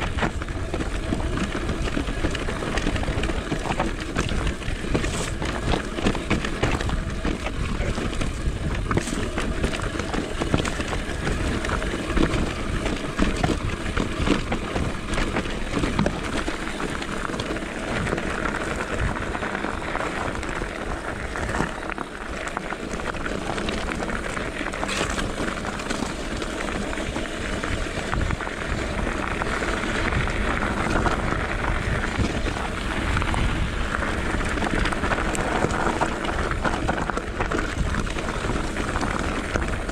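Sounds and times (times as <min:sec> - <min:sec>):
bike rattling over bumps: 0:00.0 - 0:39.9
tyres crunching over stones: 0:00.0 - 0:39.9.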